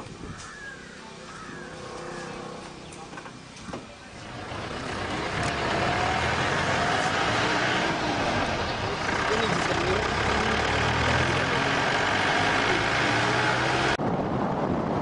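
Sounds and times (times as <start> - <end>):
motor engine rumbling: 0.0 - 15.0.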